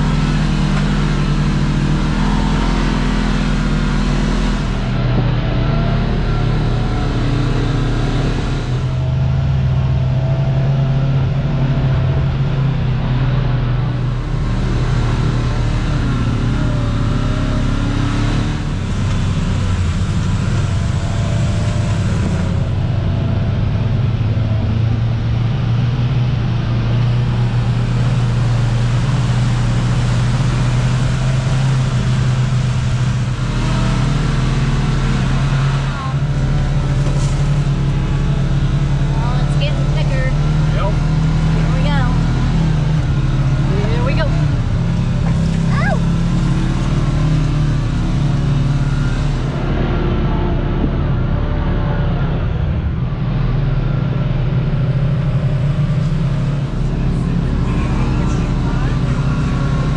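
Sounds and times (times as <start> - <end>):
engine running low drone: 0.0 - 59.9.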